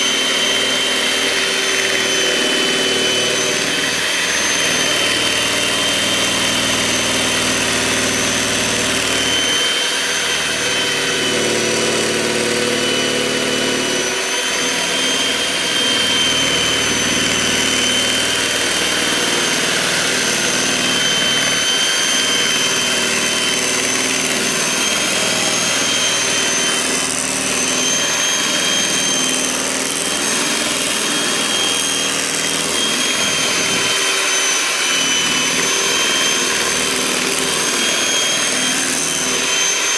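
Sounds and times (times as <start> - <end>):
electric mixer whining: 0.0 - 39.9.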